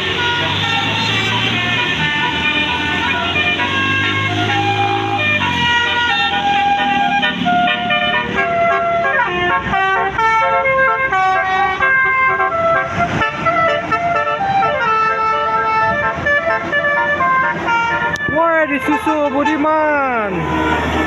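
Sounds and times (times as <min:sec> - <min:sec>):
multi-tone bus horn tune: 0:00.0 - 0:21.0.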